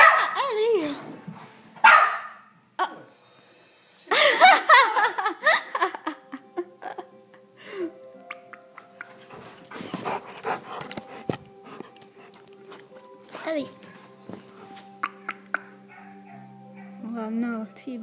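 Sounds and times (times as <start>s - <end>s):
faint background music: 0.0s - 18.0s.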